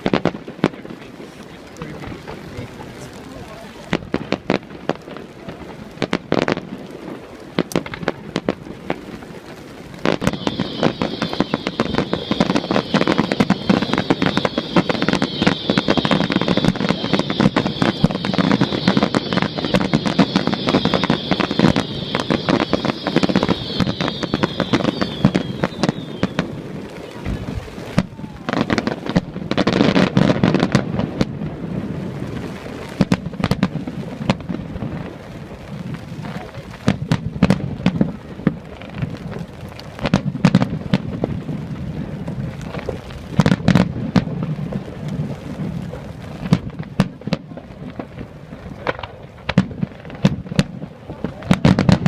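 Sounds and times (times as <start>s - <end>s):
fireworks crackling: 0.0s - 52.0s.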